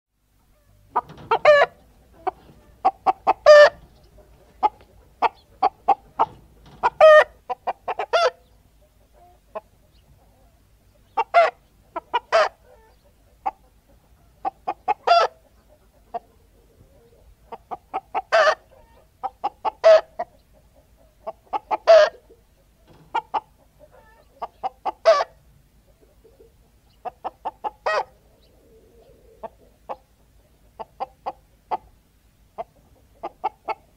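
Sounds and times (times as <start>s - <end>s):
hens cackling and squawking: 0.4s - 33.9s.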